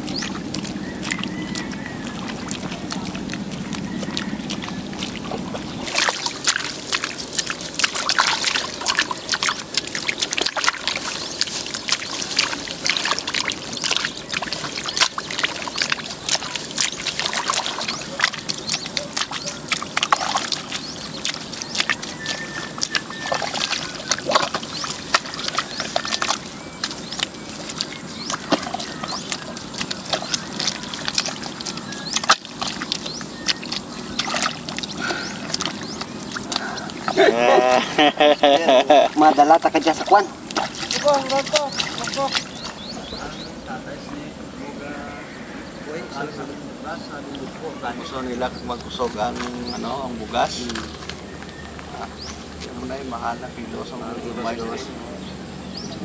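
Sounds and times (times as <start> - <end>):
water sloshing and splashing: 0.0 - 44.8, 46.2 - 56.0
mud squelching: 0.0 - 56.0.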